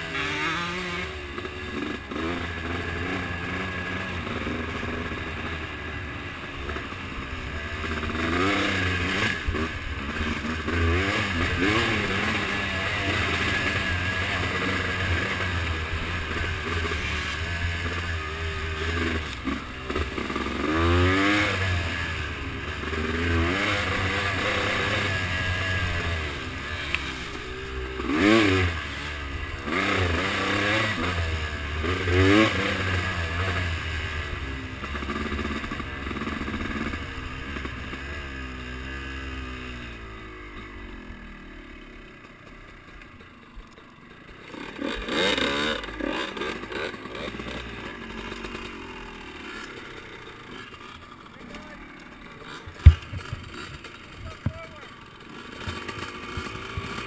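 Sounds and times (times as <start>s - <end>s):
off-road vehicle engine revving: 0.0s - 42.0s, 44.2s - 57.0s.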